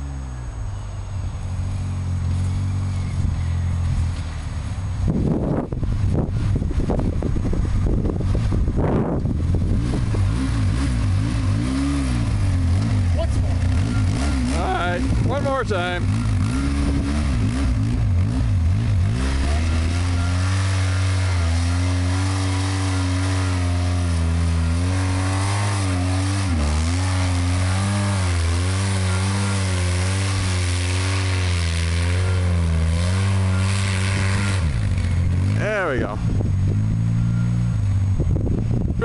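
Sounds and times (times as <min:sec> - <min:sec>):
quad engine revving: 0:01.5 - 0:39.0.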